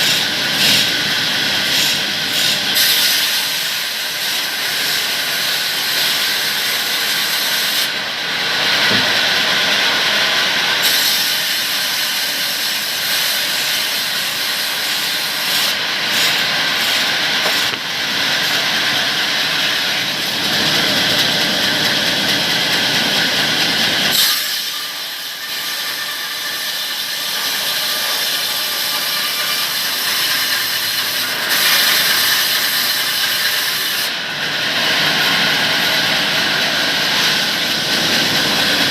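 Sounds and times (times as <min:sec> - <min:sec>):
power saw cutting wood: 0:00.0 - 0:38.9.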